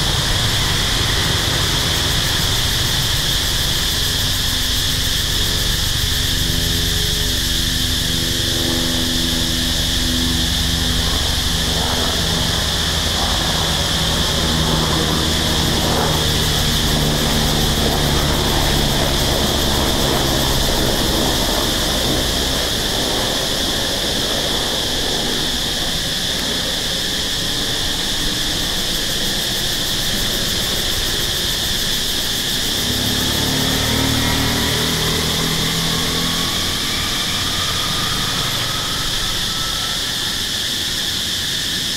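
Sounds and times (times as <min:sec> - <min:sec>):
low engine hum: 0:00.0 - 0:41.6
insects droning: 0:00.0 - 0:41.9.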